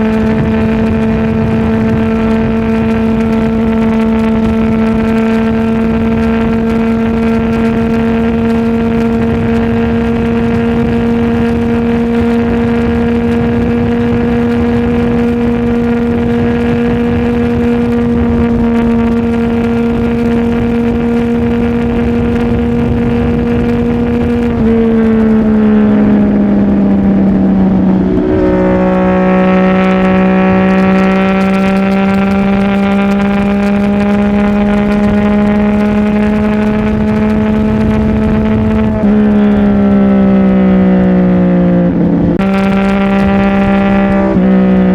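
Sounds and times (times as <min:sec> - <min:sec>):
motorcycle engine: 0:00.0 - 0:44.9.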